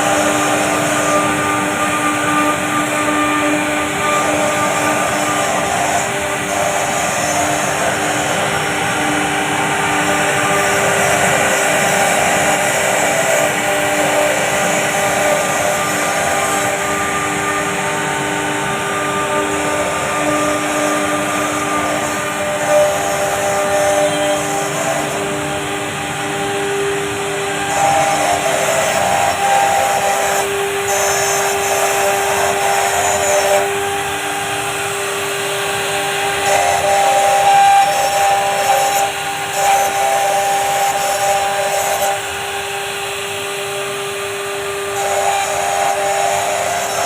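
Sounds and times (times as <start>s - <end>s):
bit cutting material: 0.0s - 47.0s
router spindle whine: 0.0s - 47.0s.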